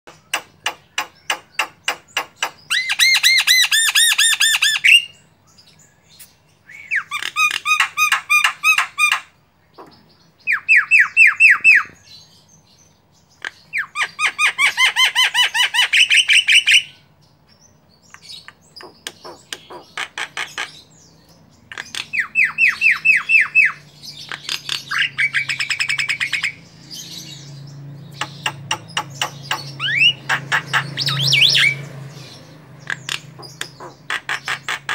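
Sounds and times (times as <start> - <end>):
bird singing trilled phrases: 0.1 - 34.9.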